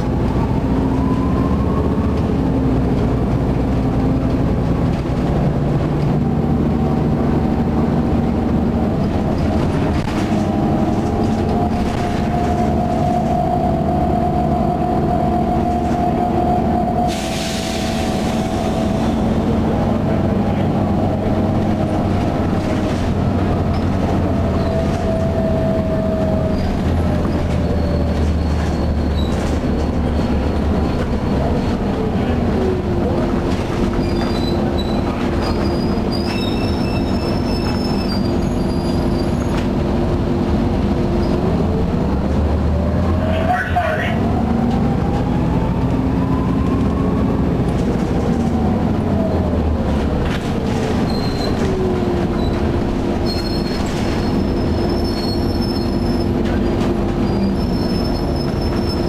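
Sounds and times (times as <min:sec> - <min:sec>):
bus drivetrain whine: 0:00.0 - 0:59.0
low engine rumble: 0:00.0 - 0:59.0.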